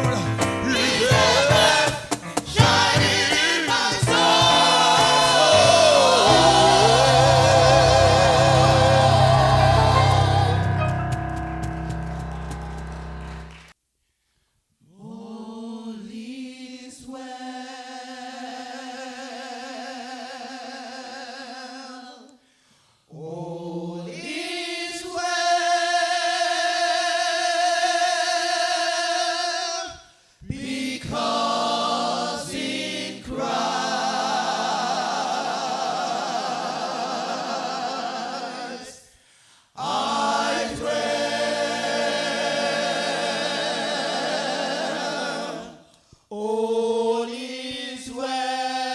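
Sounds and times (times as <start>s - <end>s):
gospel choir singing: 0.0s - 13.7s, 15.0s - 22.4s, 23.1s - 48.9s.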